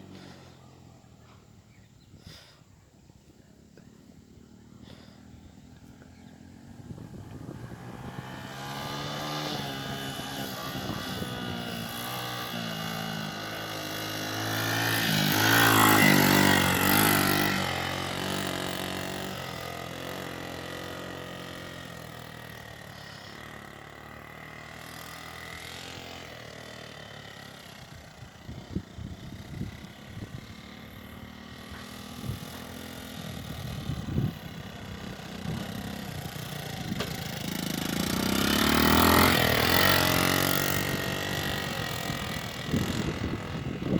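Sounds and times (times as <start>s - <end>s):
motorcycle passing by: 0.0s - 2.5s, 3.2s - 43.9s.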